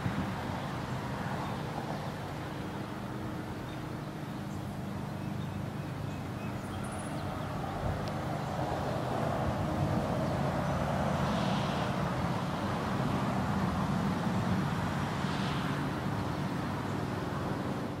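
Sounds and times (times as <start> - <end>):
low engine-like traffic rumble: 0.0 - 18.0.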